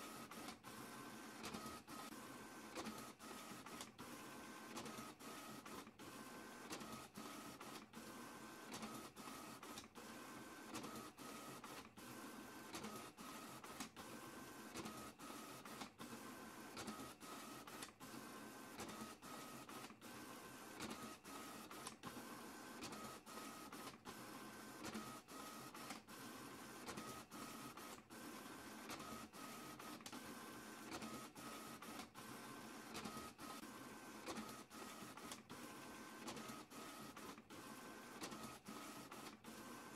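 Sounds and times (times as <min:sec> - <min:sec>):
printer whirring: 0:00.0 - 0:39.9.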